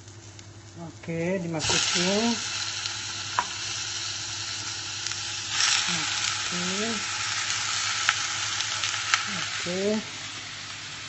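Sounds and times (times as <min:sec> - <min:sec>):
meat sizzling in hot oil: 0:01.4 - 0:11.0.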